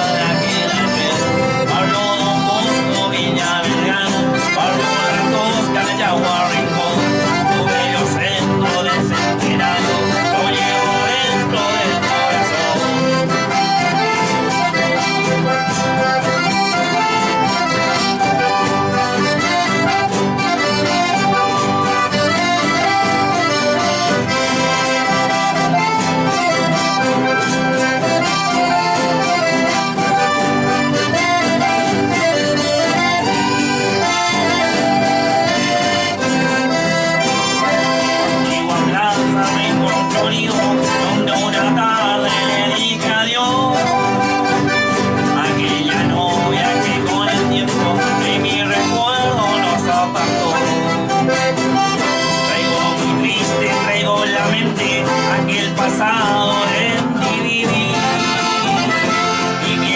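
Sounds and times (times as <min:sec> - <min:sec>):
accordion playing folk tune: 0:00.0 - 0:59.9
guitar accompaniment: 0:00.0 - 0:59.9.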